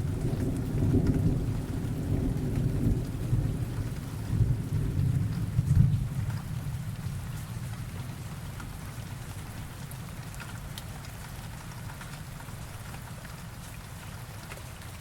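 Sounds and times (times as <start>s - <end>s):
steady rain: 0.0s - 15.0s
raindrop ticks: 0.1s - 15.0s.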